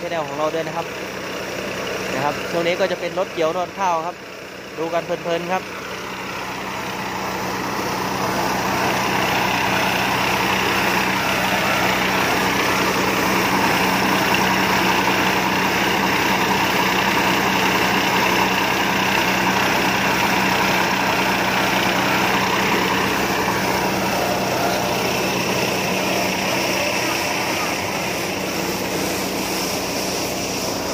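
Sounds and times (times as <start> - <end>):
combine harvester running: 0.0 - 30.9.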